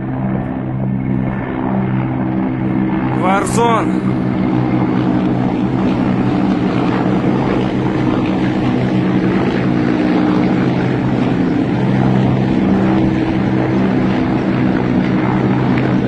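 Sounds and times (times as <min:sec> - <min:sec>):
helicopters flying overhead: 0:00.0 - 0:16.0.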